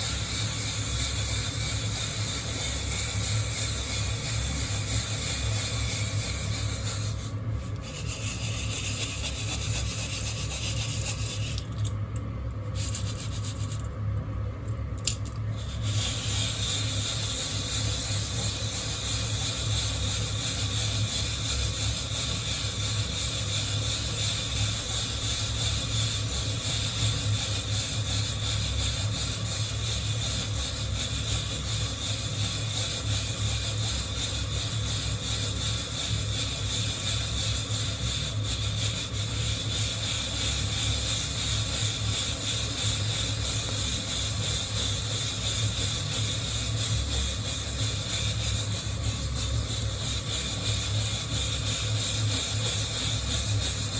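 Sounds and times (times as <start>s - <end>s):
coffee beans rattling in roaster: 0.0s - 53.9s
steady low hum: 0.0s - 53.9s.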